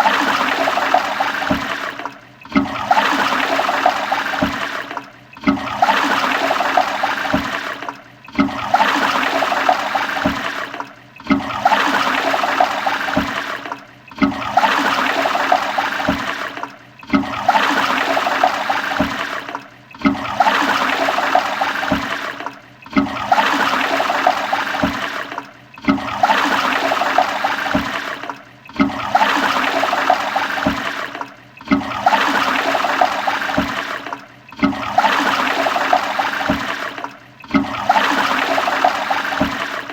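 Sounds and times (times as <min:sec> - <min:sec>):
toilet flushing: 0:00.0 - 0:39.9.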